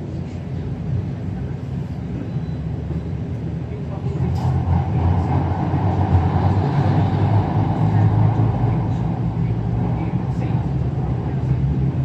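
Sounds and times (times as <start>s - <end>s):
train rumble and hum inside carriage: 0.0s - 12.0s.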